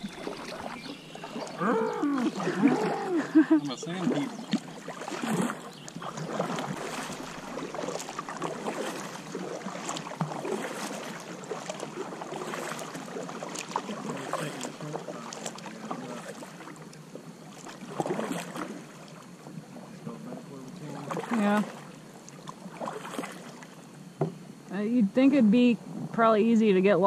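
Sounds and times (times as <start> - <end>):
steady wash of water: 0.0 - 25.0
paddle water splashing: 0.0 - 27.0.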